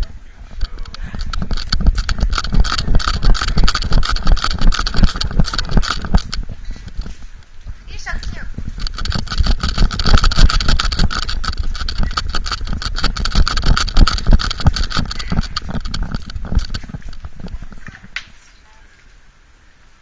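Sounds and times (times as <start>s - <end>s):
camera thumps and scrapes: 0.0s - 18.3s
steady rasping noise: 0.0s - 18.3s.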